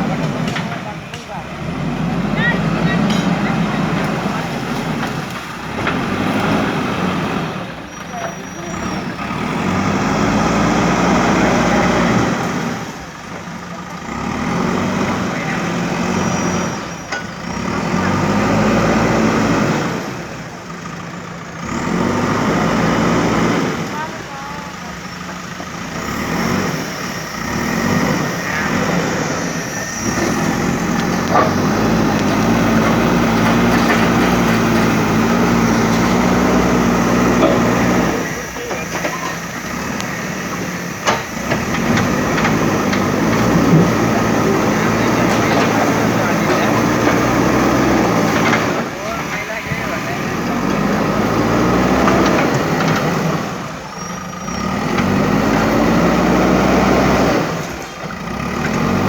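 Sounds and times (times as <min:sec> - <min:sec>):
diesel engine working under load: 0:00.0 - 0:59.0.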